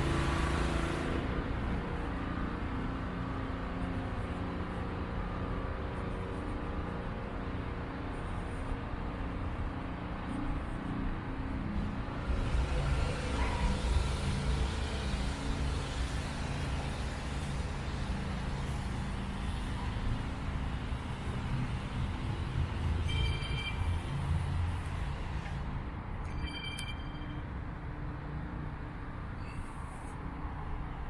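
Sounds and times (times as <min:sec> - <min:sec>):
road traffic rumble: 0:00.0 - 0:26.3, 0:27.3 - 0:31.0.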